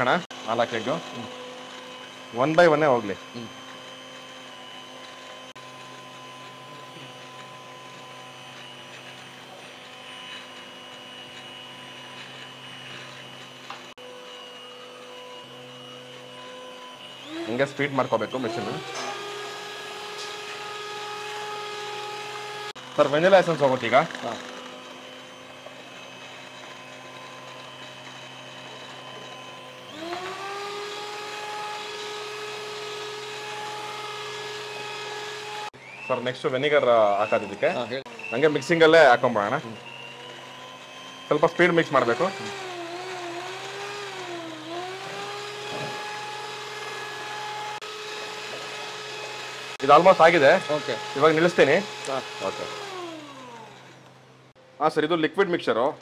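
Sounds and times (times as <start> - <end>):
stand mixer whisking batter: 0.0 - 54.0.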